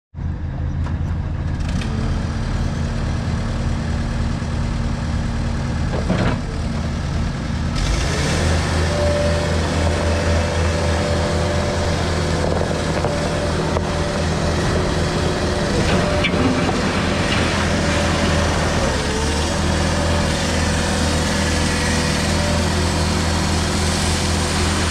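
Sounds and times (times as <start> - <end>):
diesel engine running and revving: 0.2 - 24.9.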